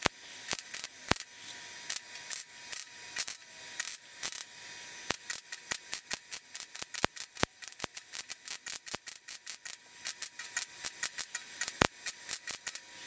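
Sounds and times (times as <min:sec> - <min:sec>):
welder arc crackling and popping: 0:00.0 - 0:13.0.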